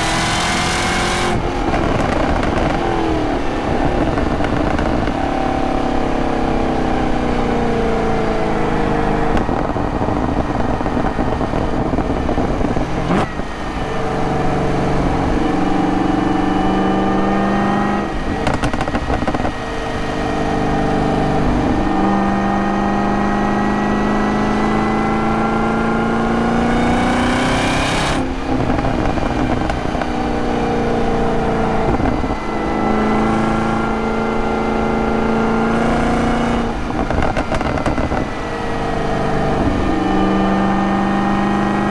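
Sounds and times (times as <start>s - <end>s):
car engine accelerating: 0.0s - 41.9s.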